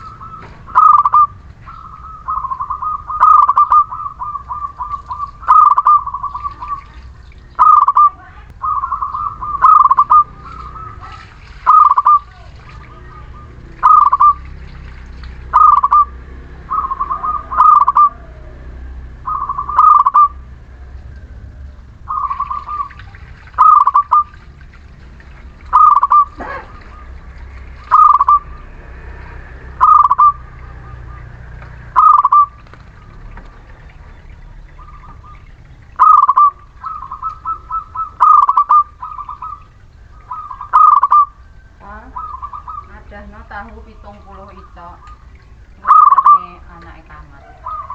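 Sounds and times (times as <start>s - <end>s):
dove cooing: 0.0s - 47.9s
steady low rumble: 0.0s - 47.9s.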